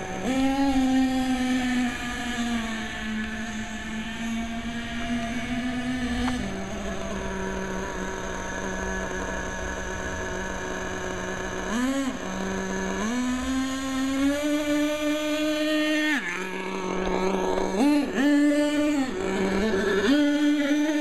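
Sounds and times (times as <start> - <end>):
small model engine running: 0.0 - 21.0.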